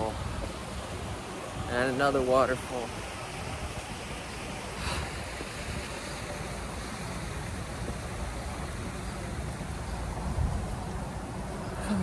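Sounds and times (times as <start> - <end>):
waterfall rushing: 0.0 - 12.0
wind rumble on microphone: 0.0 - 12.0.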